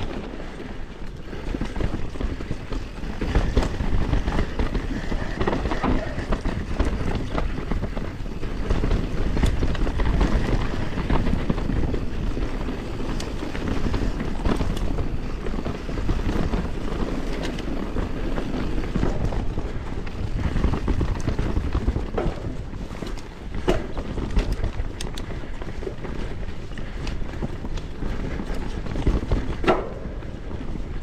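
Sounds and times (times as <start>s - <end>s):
bike clicks and knocks: 0.0s - 30.9s
bike tyres rumbling on dirt: 0.0s - 31.0s.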